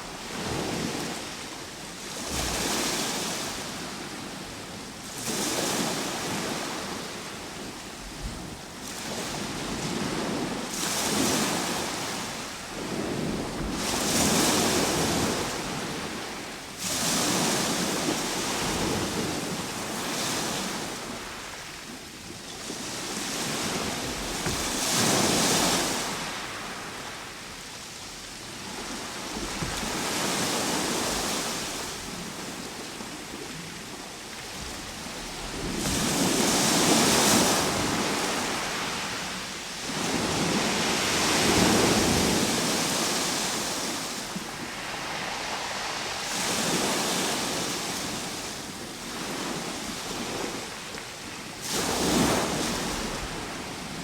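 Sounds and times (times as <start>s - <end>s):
ocean waves breaking: 5.2s - 50.6s.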